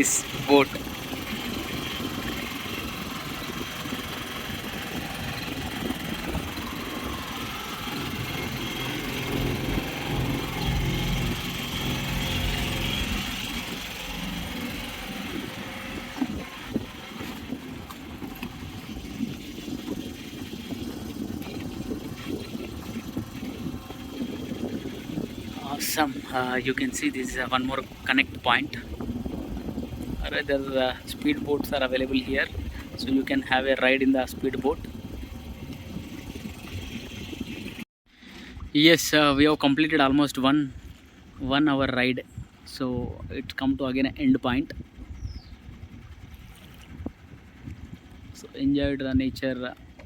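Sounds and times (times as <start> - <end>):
boat engine running: 0.0 - 50.0.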